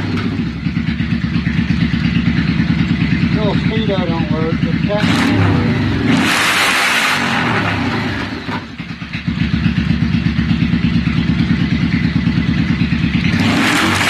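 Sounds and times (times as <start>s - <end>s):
motorcycle engine idling: 0.0s - 6.1s, 7.8s - 13.5s.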